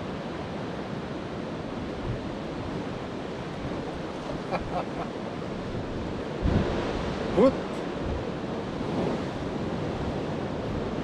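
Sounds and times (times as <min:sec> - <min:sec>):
ocean surf washing against rock: 0:00.0 - 0:11.0
wind buffeting microphone: 0:01.6 - 0:11.0.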